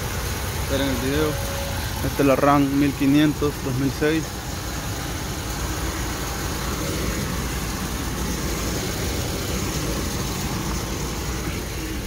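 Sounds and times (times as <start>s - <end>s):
engine idling: 0.0s - 12.0s
fan whirring and rushing air: 0.0s - 12.0s.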